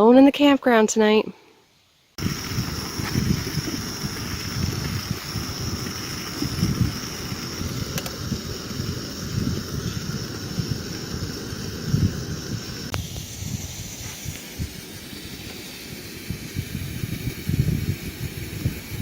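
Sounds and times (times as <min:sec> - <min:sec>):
wind buffeting microphone: 0:02.2 - 0:19.0.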